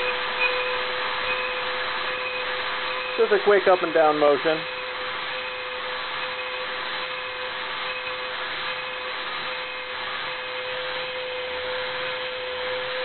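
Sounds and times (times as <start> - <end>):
rotary tool whining: 0.0 - 13.0.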